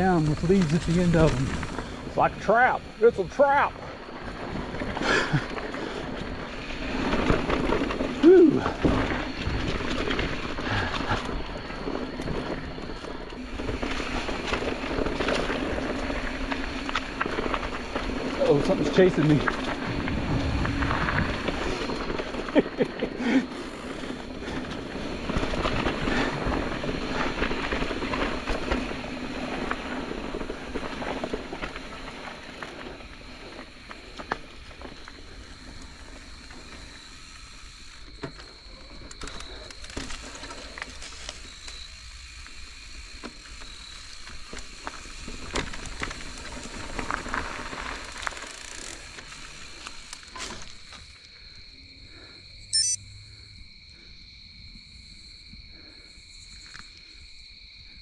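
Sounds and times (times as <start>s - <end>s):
bike tyres crackling over leaves: 0.0s - 52.5s
insects chirring: 0.0s - 58.0s.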